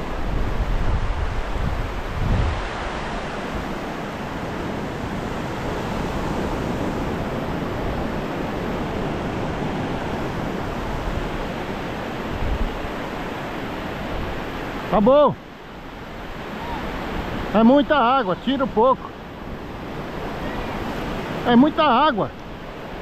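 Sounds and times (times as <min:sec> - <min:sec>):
ocean waves rushing: 0:00.0 - 0:23.0.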